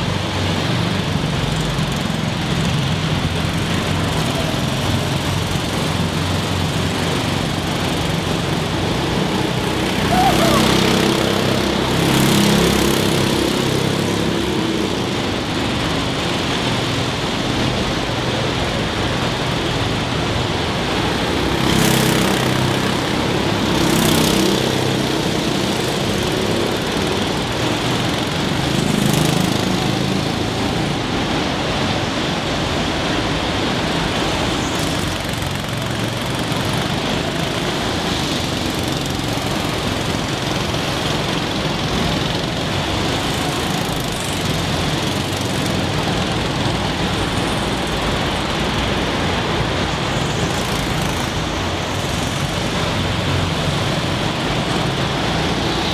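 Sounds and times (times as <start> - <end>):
go-kart engines running: 0.0 - 55.9
karts passing close by: 0.0 - 55.9.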